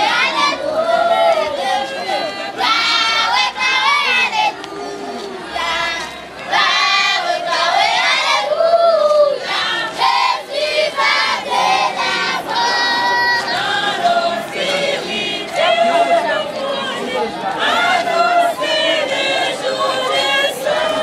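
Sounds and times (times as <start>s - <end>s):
children's choir singing a hymn: 0.0s - 21.0s.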